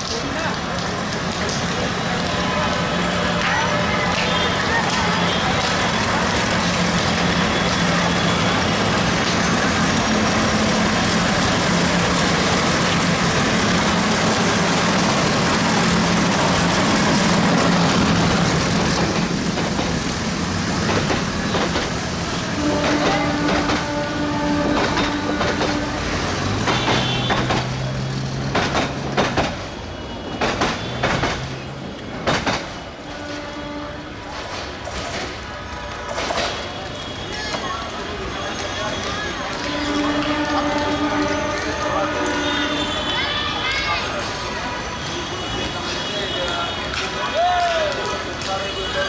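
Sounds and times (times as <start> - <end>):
train roaring past: 0.0 - 49.0.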